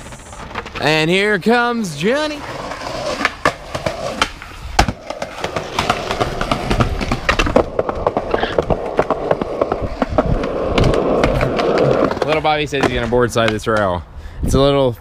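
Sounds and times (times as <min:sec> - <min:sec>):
skateboard wheels clacking over cracks: 0:00.0 - 0:14.0
skateboard wheels rolling on concrete: 0:00.0 - 0:15.0.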